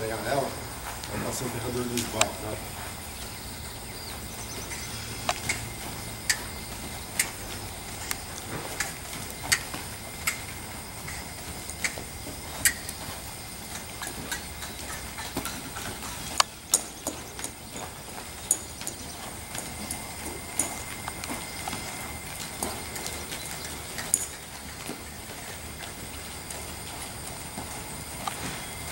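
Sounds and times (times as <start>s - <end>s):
horse hoofbeats on soft dirt: 0.0s - 28.9s.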